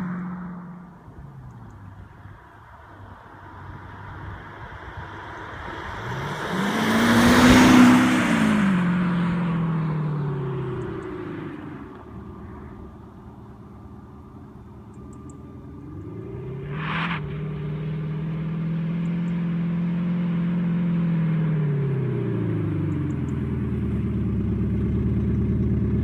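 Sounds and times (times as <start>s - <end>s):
diesel car driving past: 0.0s - 26.0s.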